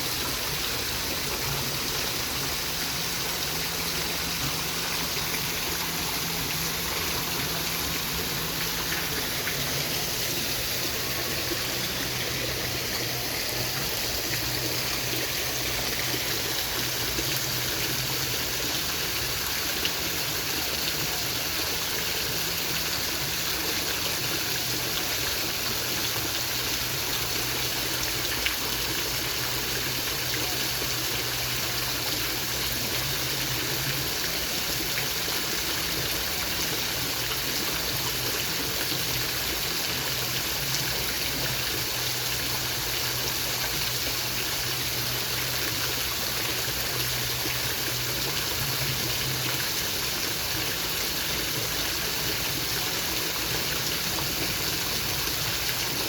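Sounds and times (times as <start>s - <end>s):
waterfall: 0.0s - 56.0s.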